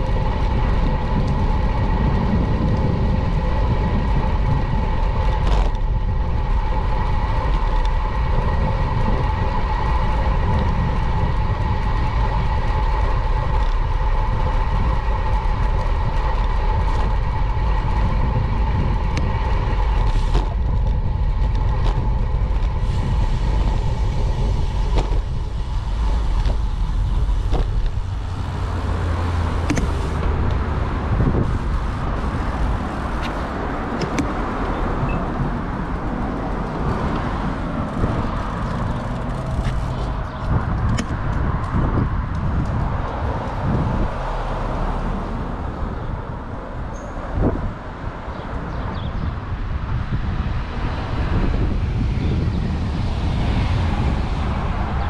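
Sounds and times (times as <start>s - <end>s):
heavy low rumble: 0.0s - 55.0s
high hum or whine: 0.0s - 55.0s
motor vehicles running: 0.0s - 55.0s.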